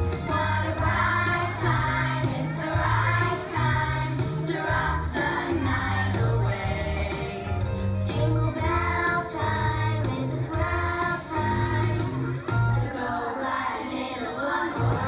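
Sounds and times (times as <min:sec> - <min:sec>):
instrumental accompaniment with bass: 0:00.0 - 0:13.0, 0:14.8 - 0:15.0
children singing as a choir: 0:00.2 - 0:15.0.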